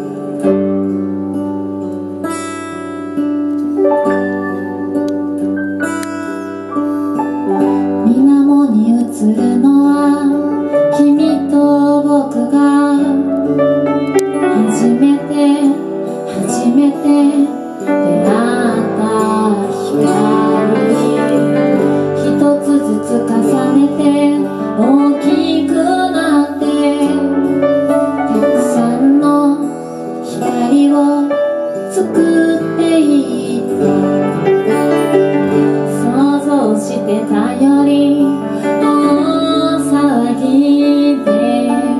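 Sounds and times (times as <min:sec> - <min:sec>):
acoustic guitar: 0:00.0 - 0:41.9
woman singing: 0:07.6 - 0:41.9.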